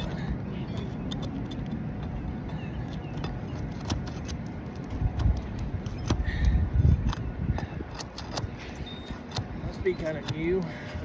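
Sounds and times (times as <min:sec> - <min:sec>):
tool scraping under roof shingle: 0:00.0 - 0:11.0.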